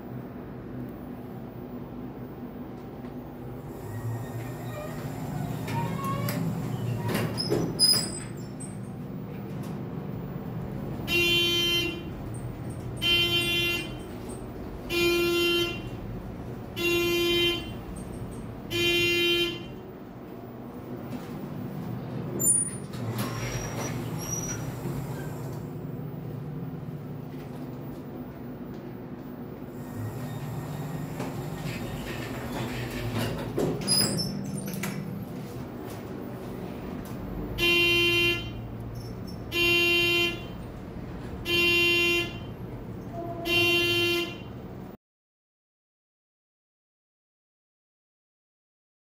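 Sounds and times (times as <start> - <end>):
elevator humming: 0.0 - 43.7.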